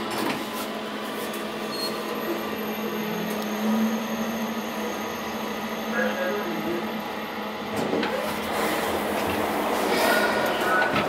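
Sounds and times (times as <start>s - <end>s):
elevator mechanical hum and whine: 0.0s - 11.0s.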